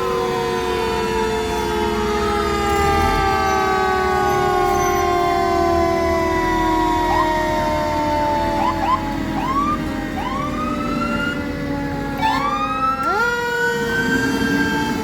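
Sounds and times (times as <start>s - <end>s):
fire truck sirens wailing: 0.0s - 15.0s.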